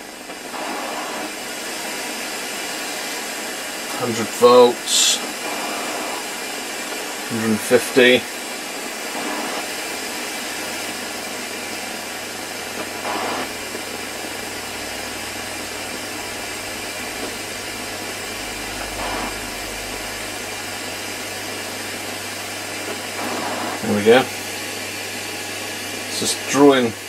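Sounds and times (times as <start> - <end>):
low mains hum: 0.0 - 27.0
steady hiss: 0.0 - 27.0.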